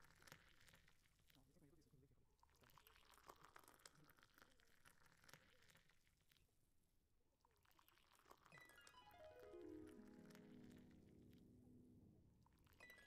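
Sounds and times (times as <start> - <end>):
faint clicks and crackle: 0.0 - 6.8, 7.4 - 13.0.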